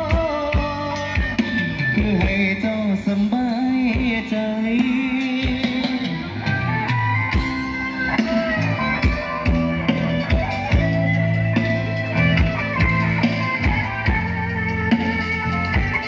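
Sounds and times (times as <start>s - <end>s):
electric guitar melody: 0.0s - 16.0s
instrumental band music over loudspeakers: 0.0s - 16.0s.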